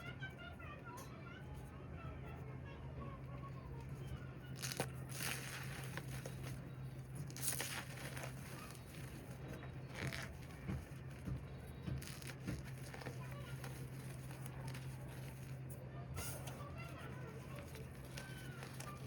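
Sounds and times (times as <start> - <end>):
steady low hum: 0.0 - 19.0
cornstarch crunching: 3.5 - 19.0.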